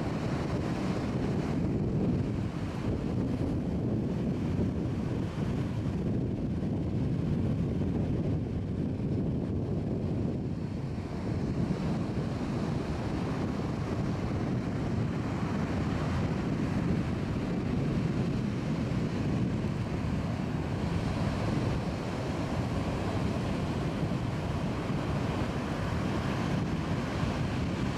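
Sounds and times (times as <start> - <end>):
ocean surf breaking on beach: 0.0 - 27.9
wind buffeting microphone: 0.0 - 27.9.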